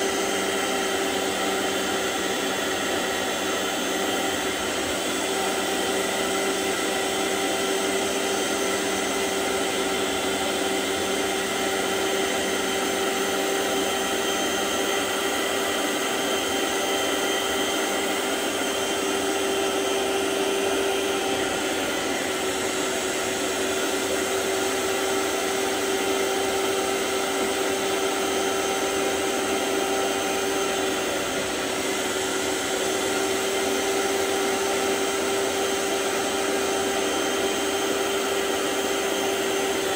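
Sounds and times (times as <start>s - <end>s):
carpet cleaner motor whining: 0.0s - 39.9s.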